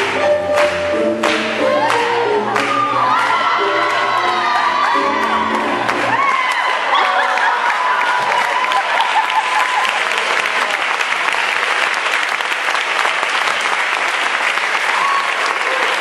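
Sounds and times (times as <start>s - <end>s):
audience applauding: 0.0s - 16.0s
people cheering: 1.8s - 16.0s.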